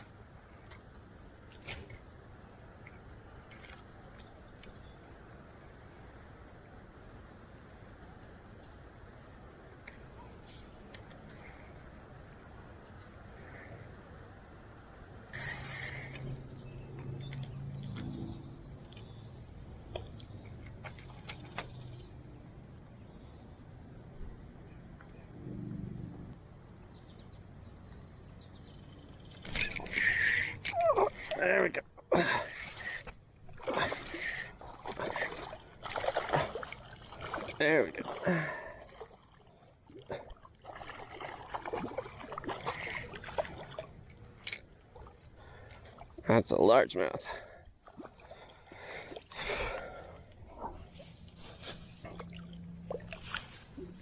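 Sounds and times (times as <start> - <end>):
water splashing and sloshing: 0.0 - 6.4, 14.5 - 26.4, 27.8 - 54.0
distant traffic hum: 10.8 - 54.0.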